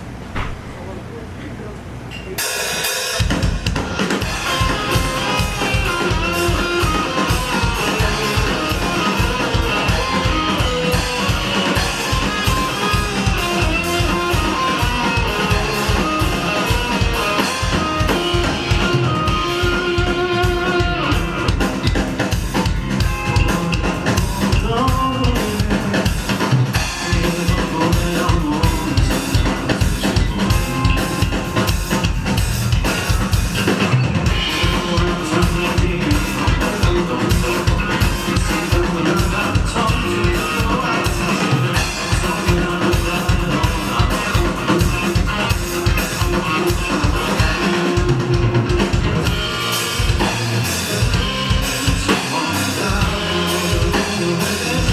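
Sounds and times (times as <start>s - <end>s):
drum kit beat: 2.4s - 54.9s
bass guitar: 3.2s - 54.9s
electric guitar: 3.2s - 54.9s.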